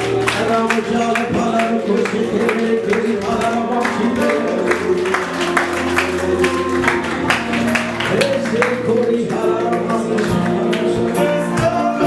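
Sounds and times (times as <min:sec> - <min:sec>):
worship music with steady beat: 0:00.0 - 0:12.0.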